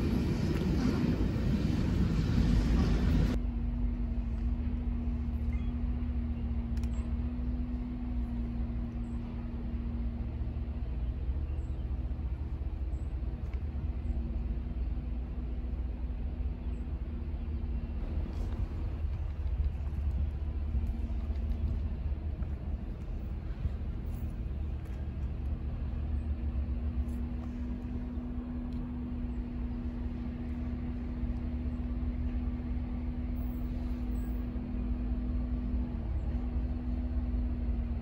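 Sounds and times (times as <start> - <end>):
distant diesel locomotive rumble: 0.0 - 38.0.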